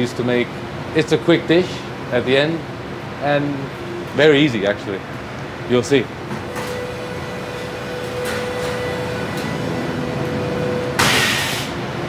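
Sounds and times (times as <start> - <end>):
exhaust hood whirring: 0.0 - 12.0.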